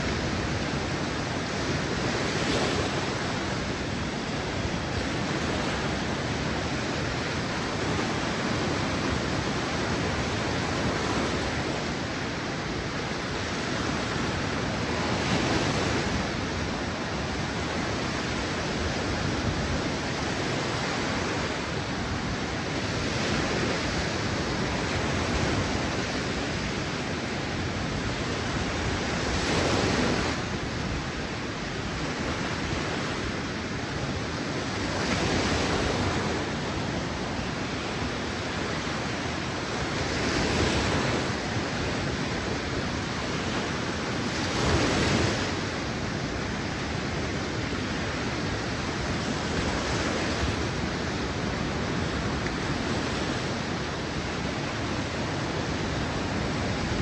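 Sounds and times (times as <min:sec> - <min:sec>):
waves washing on sandy shore: 0:00.0 - 0:57.0.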